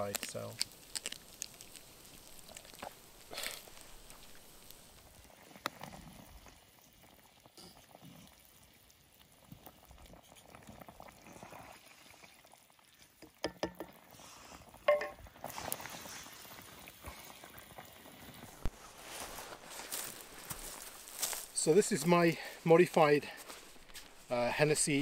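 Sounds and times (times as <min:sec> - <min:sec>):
food simmering in a pan: 0:00.0 - 0:25.0.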